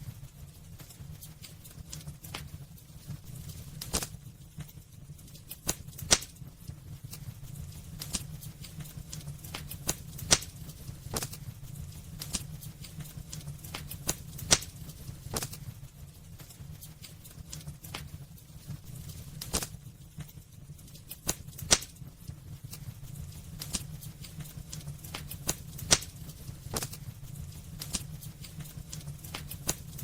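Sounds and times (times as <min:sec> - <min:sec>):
fire low rumble: 0:00.0 - 0:30.0
wood fire crackling and popping: 0:00.0 - 0:30.0.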